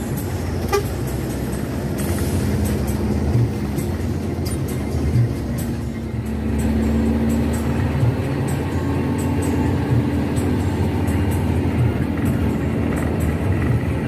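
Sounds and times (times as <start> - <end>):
bus diesel engine drone: 0.0 - 14.0
road noise: 0.0 - 14.0.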